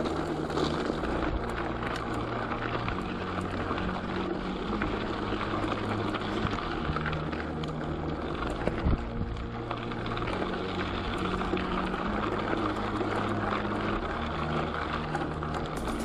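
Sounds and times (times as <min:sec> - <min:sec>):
bicycle tyres rumbling: 0:00.0 - 0:16.0
small rattles and clicks: 0:00.0 - 0:16.0.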